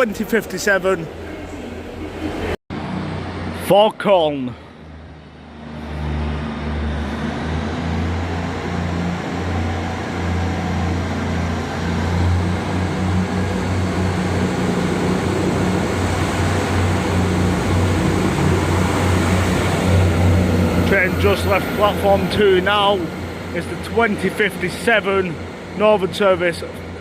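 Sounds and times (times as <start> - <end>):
train diesel engines humming: 0.0 - 27.0.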